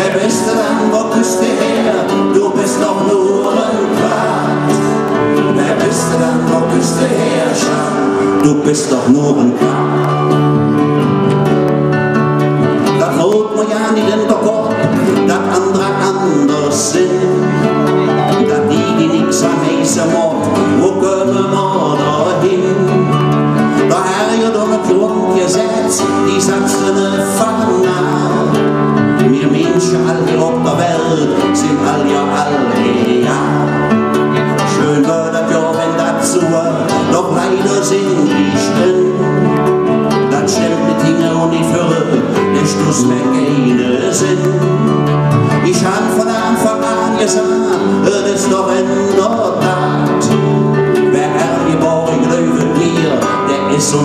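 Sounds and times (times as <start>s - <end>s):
men singing: 0.0s - 10.8s, 12.8s - 54.0s
acoustic guitars strumming: 0.0s - 54.0s.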